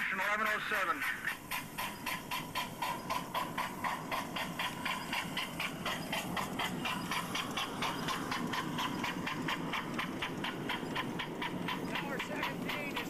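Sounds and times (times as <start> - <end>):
steam locomotive chuffing: 0.0 - 13.0
wheels rumbling on rails: 0.0 - 13.0.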